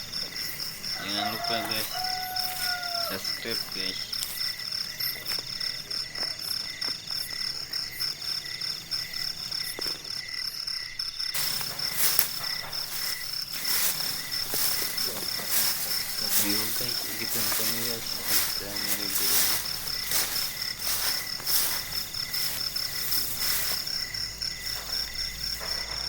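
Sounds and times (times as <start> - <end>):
crickets and frogs trilling: 0.0 - 26.0
rustling hiss: 0.0 - 26.0.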